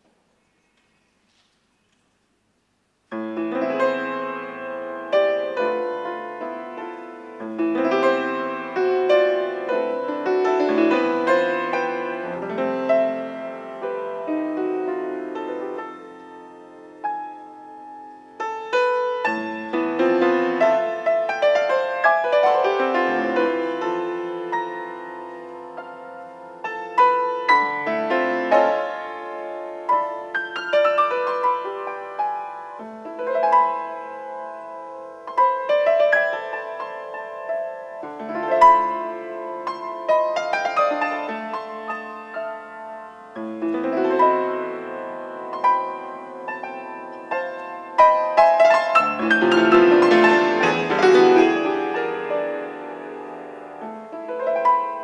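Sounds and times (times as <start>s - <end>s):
solo grand piano: 0.0s - 55.0s.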